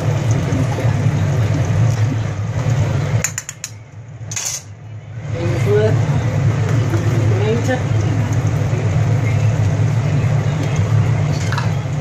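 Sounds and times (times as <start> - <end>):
pot boiling with low rumble: 0.0 - 12.0.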